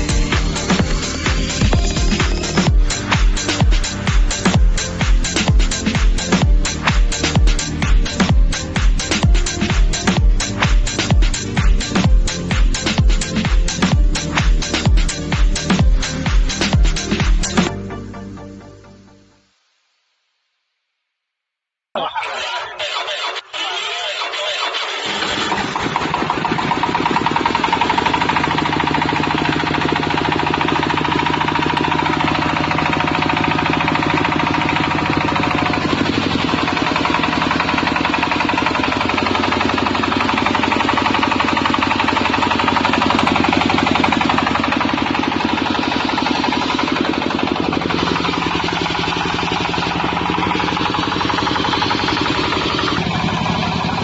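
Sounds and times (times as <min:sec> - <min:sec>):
diesel engine knocking: 0:00.0 - 0:17.7, 0:24.7 - 0:54.0.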